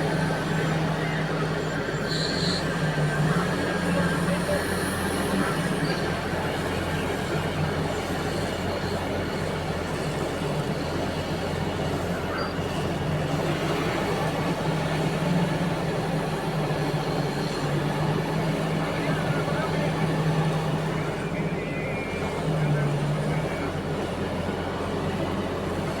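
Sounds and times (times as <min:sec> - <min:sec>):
heavy diesel engines droning: 0:00.0 - 0:26.0.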